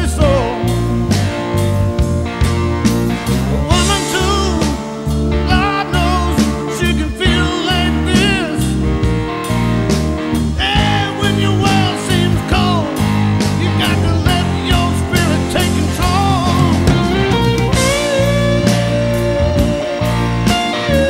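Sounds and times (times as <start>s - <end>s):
blues rock band playing: 0.0s - 21.0s
wavering electric guitar lead: 0.0s - 21.0s.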